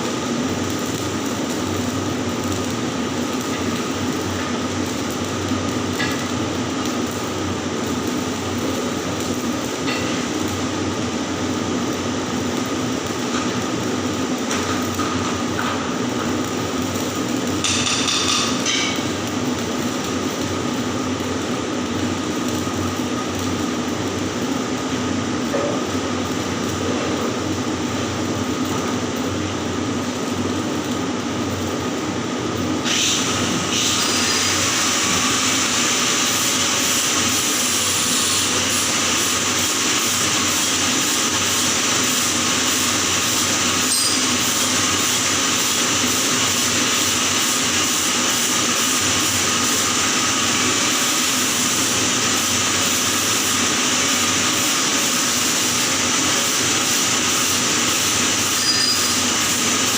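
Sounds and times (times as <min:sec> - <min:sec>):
arc welding crackling hiss: 0:00.0 - 0:59.9.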